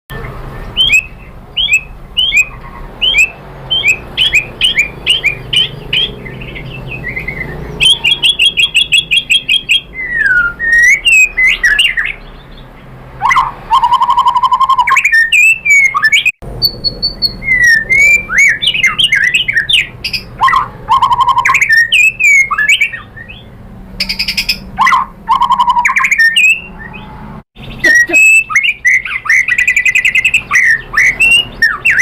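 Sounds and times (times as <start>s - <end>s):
songbird singing whistled notes: 0.1s - 32.0s.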